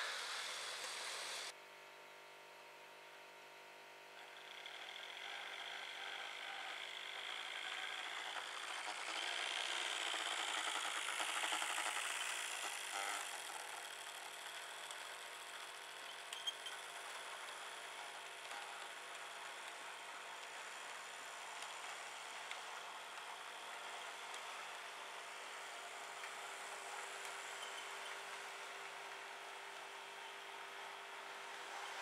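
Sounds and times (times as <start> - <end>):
model train motor whirring: 0.0 - 1.5, 4.2 - 32.0
wheels rattling on rails: 4.5 - 32.0.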